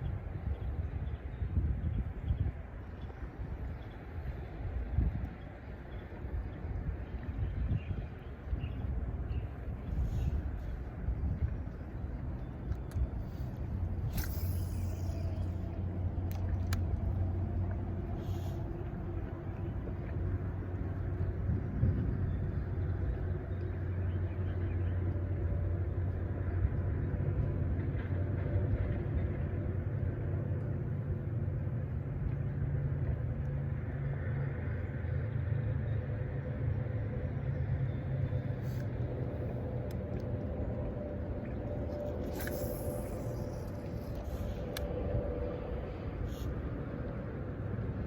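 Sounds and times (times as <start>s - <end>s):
low engine rumble: 0.0s - 48.0s.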